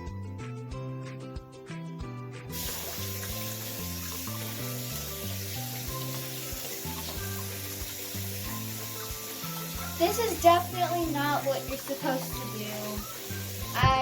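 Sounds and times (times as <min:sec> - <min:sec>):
background music with bass line: 0:00.0 - 0:11.5
tap water running into sink: 0:02.5 - 0:14.0.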